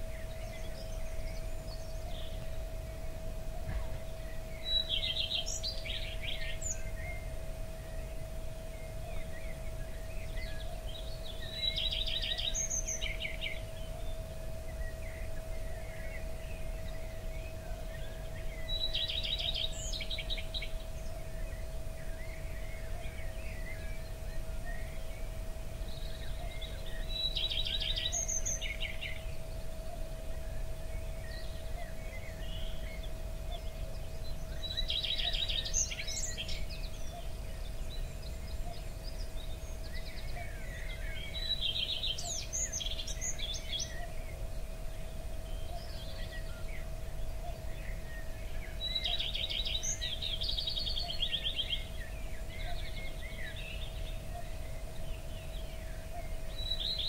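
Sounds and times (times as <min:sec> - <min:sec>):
songbird chirping: 0:00.0 - 0:57.0
steady hum: 0:00.0 - 0:57.0.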